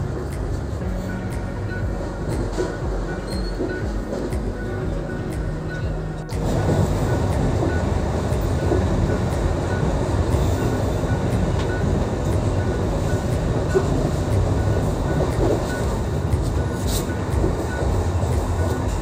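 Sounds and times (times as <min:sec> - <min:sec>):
faint background music: 0:00.0 - 0:19.0
train rumbling along track: 0:00.0 - 0:19.0.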